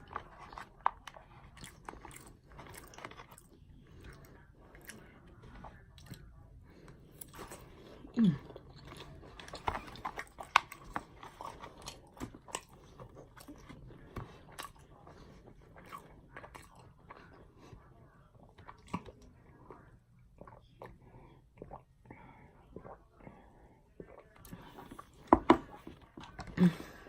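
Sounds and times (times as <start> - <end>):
chewing and biting food: 0.0 - 22.1.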